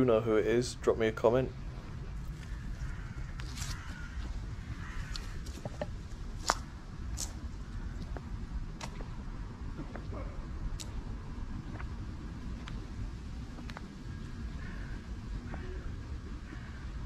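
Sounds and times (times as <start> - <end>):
wind and handling rumble: 0.0 - 17.0.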